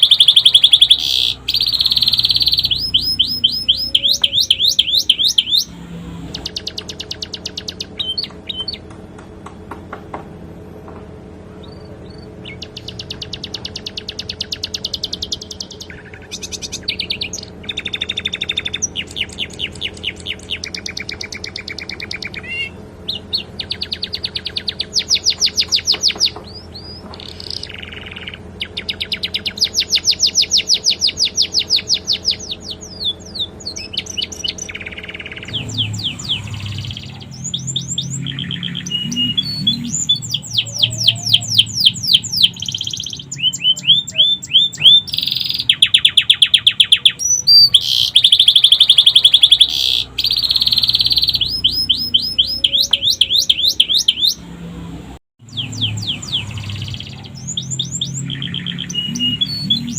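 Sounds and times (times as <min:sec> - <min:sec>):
canary singing trills: 0:00.0 - 0:09.0, 0:11.5 - 0:59.9.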